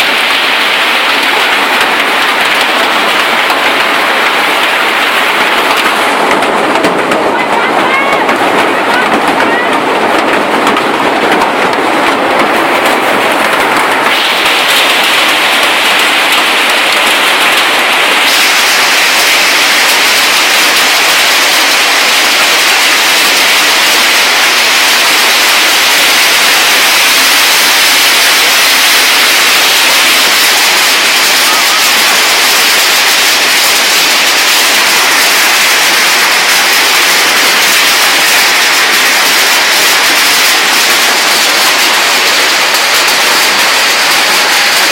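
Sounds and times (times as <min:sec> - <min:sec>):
heavy storm rain: 0:00.0 - 0:44.9.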